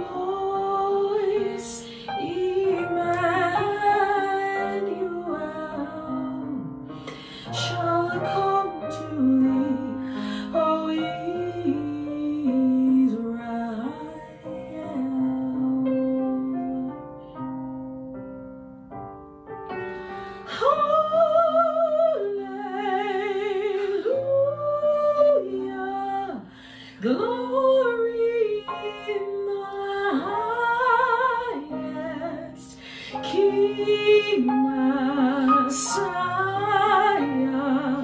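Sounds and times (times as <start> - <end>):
soprano singing a hymn: 0.0 - 17.4, 20.0 - 38.0.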